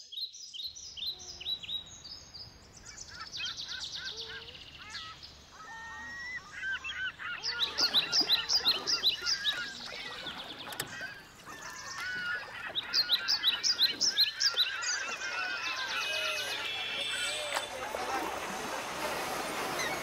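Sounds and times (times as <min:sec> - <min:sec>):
birds chirping in chorus: 0:00.0 - 0:18.2.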